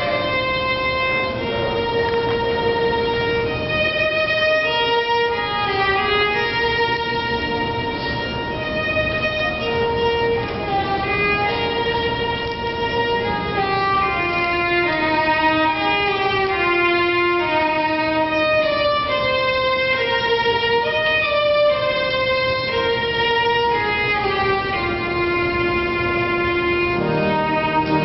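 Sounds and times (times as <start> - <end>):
solo violin slow melody: 0.0 - 28.0.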